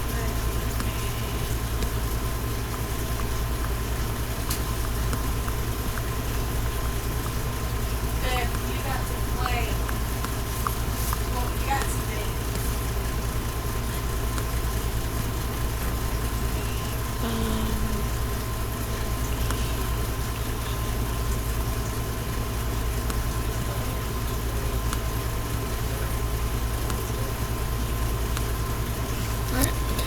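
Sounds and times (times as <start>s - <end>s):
motor droning hum: 0.0s - 30.0s.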